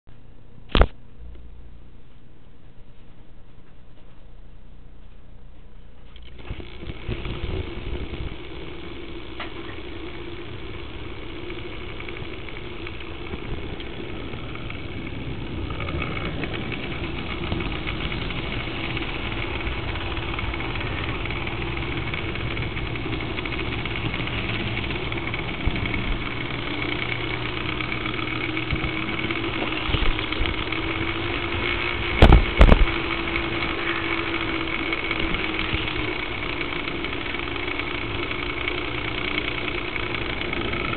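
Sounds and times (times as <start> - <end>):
model train motor hum and whine: 6.0 - 40.9.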